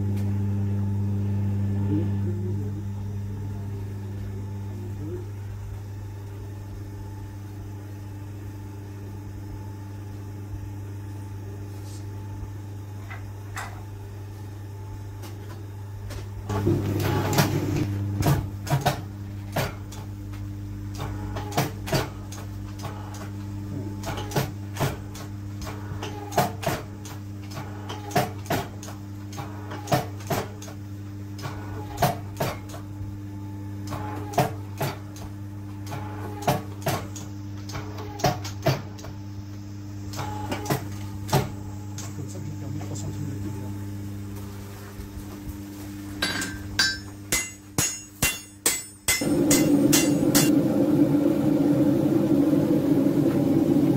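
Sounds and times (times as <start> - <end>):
electric hum: 0.0 - 53.9.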